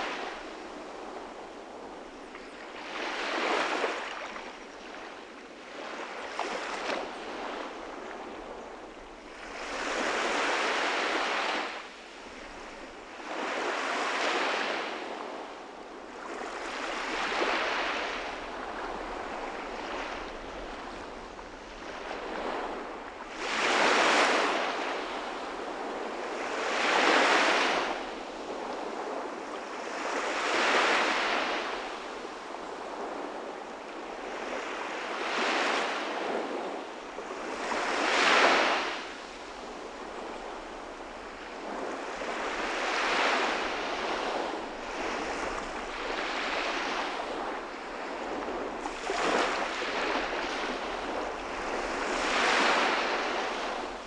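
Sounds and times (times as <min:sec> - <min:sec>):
waves washing up beach: 0:00.0 - 0:54.0.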